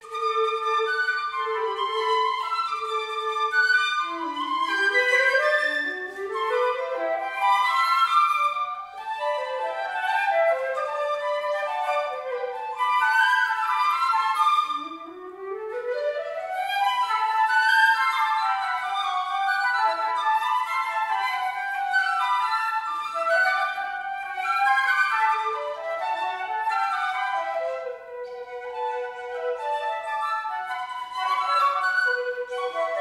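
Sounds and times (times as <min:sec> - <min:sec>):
flute and piccolo duet: 0:00.0 - 0:33.0.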